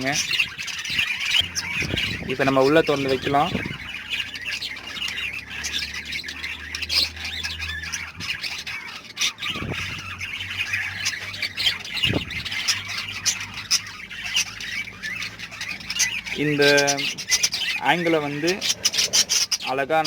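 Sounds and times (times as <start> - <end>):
birds chattering and squawking: 0.0 - 20.0.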